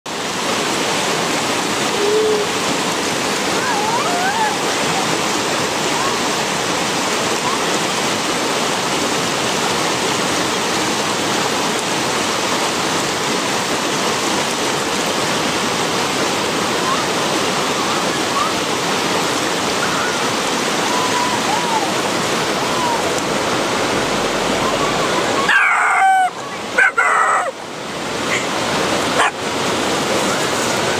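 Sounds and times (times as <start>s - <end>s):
creek water rushing over stones: 0.1s - 30.9s.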